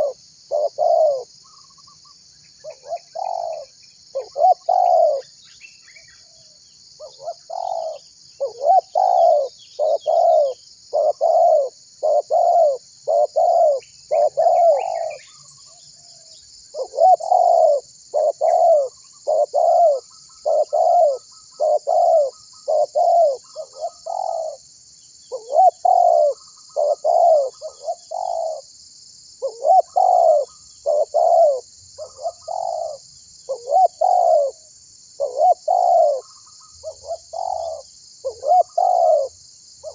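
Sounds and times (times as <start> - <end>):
dove cooing: 0.0 - 1.4, 2.6 - 5.3, 7.0 - 15.4, 16.2 - 24.6, 25.3 - 28.7, 29.4 - 34.6, 35.2 - 39.9.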